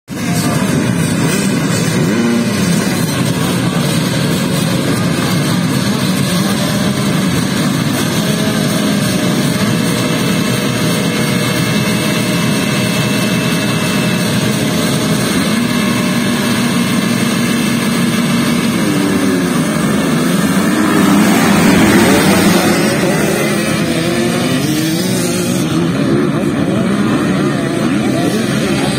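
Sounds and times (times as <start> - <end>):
motocross bikes revving: 0.1 - 28.9.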